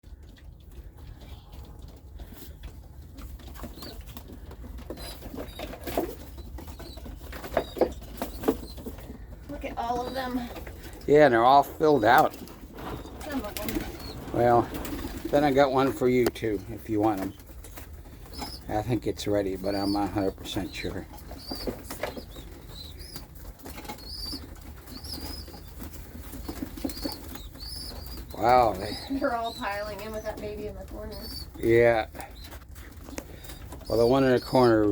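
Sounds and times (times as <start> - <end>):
doves cooing: 0.1 - 34.9
feet and feathers rustling: 0.7 - 34.9.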